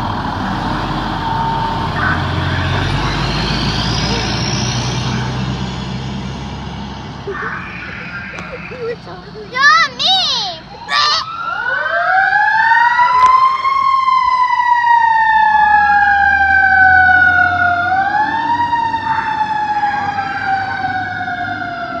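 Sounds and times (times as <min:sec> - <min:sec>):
fire engine siren wailing: 0:00.0 - 0:22.0.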